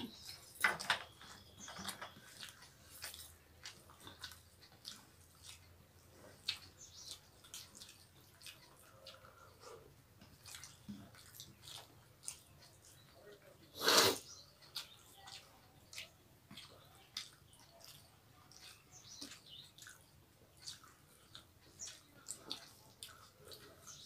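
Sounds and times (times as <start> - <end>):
soft chewing: 0.0 - 24.0
fingers squishing rice: 1.3 - 24.0.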